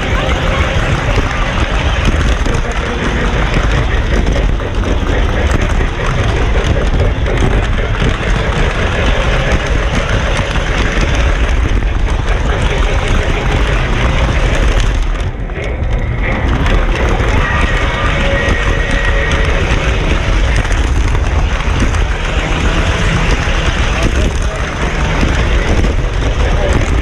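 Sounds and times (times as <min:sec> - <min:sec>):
model train rumbling on track: 0:00.0 - 0:27.0.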